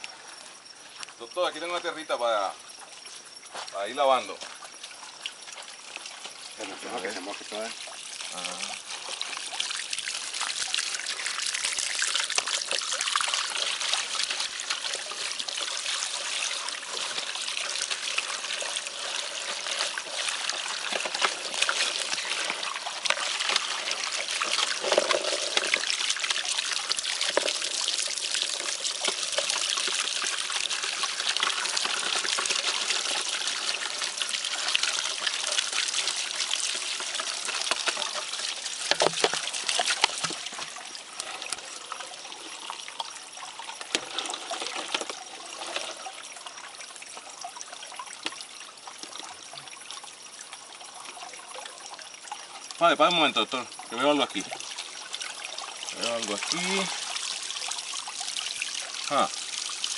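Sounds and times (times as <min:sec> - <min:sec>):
water trickling and splashing: 0:00.0 - 0:59.9
water running from garden hose: 0:03.6 - 0:59.9.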